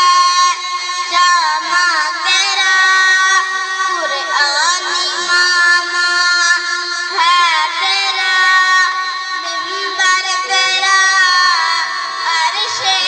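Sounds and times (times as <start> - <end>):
high singing voice: 0.0 - 13.0
steady held drone note: 0.0 - 13.0.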